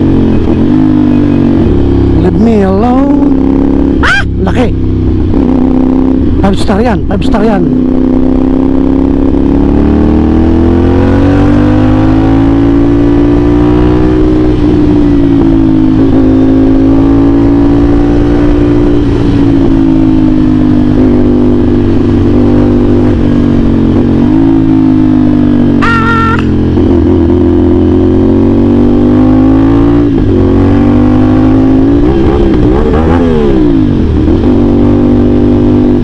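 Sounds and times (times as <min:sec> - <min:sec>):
motorcycle engine: 0:00.0 - 0:36.0.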